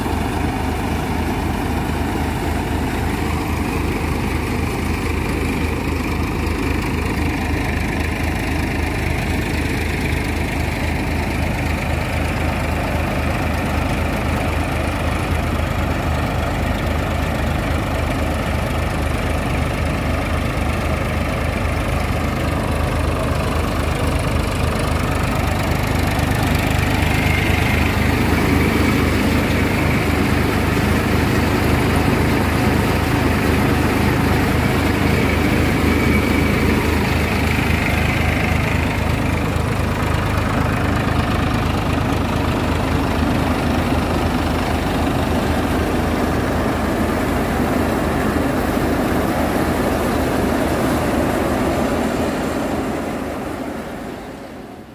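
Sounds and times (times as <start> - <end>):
thresher running: 0.0 - 54.7
tractor diesel engine running: 0.0 - 54.9.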